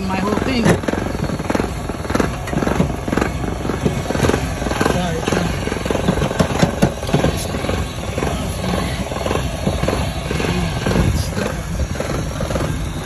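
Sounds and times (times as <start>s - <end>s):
car engine idling rough: 0.0s - 13.0s.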